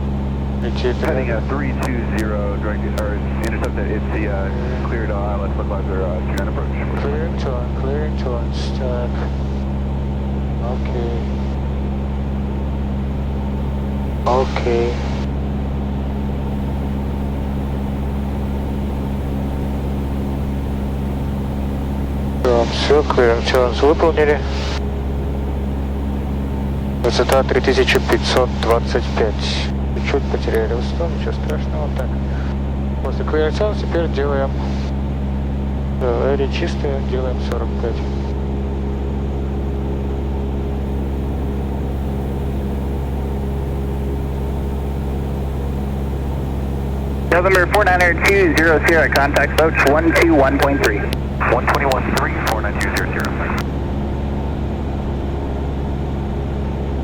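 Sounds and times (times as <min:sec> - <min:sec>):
airplane engine and propeller: 0:00.0 - 0:57.0.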